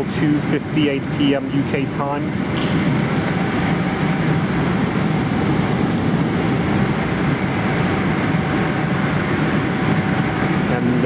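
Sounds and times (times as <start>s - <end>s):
airliner cabin airflow and engines: 0.0s - 11.0s.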